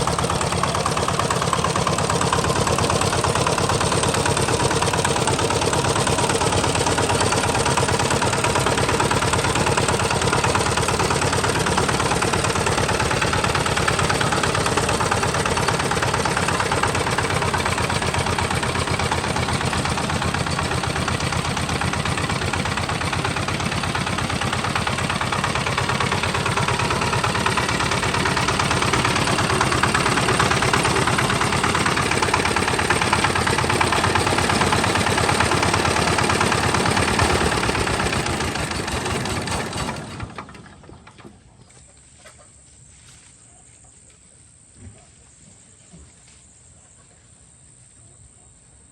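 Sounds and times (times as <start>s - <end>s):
tractor engine chugging: 0.0s - 42.2s.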